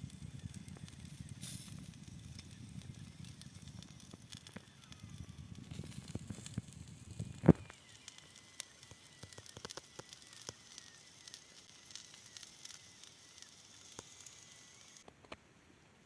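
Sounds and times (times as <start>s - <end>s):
campfire crackling: 0.0s - 15.1s
wood popping and snapping: 0.0s - 15.4s.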